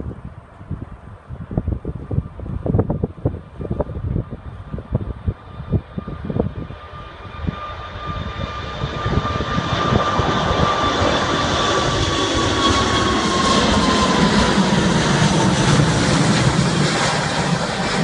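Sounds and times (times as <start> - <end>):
wind buffeting microphone: 0.0 - 18.0
high engine whine: 2.1 - 18.0
jet engines roaring: 2.1 - 18.0.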